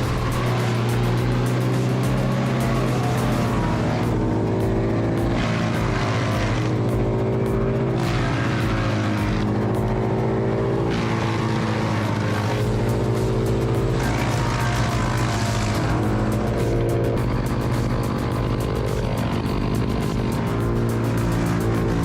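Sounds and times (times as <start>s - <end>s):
heavy machine engine droning: 0.0s - 22.0s.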